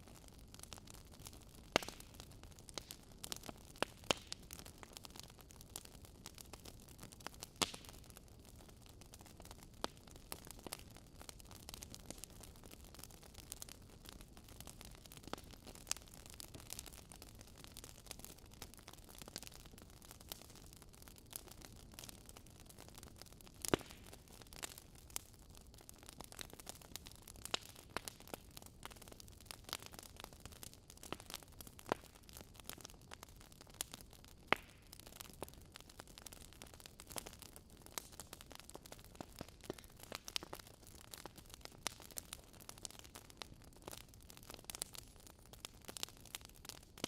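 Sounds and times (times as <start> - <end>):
fire crackling and popping: 0.0 - 47.0.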